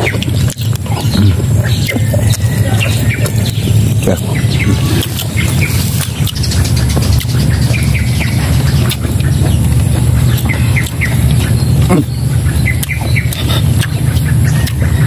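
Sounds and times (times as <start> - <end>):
birds chirping and squawking: 0.0 - 15.0
steady low rumble: 0.0 - 15.0.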